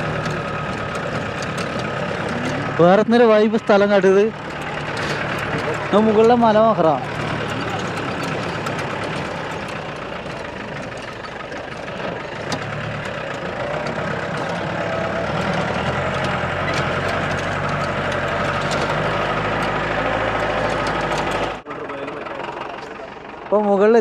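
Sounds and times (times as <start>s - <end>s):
rattles and knocks: 0.0s - 23.4s
jeep engine running: 0.0s - 24.0s.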